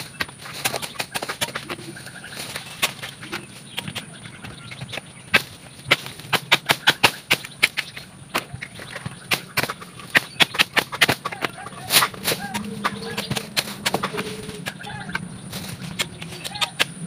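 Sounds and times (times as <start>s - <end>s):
twigs snapping and crackling: 0.0s - 17.0s.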